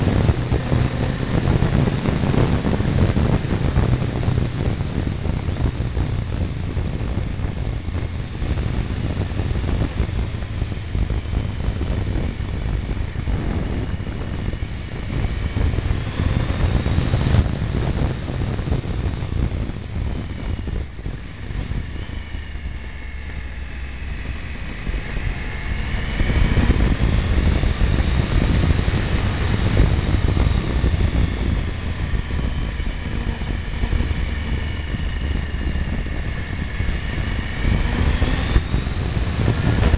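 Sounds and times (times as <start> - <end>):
motorcycle engine: 0.0 - 39.9
wind rumbling on microphone: 0.0 - 39.9.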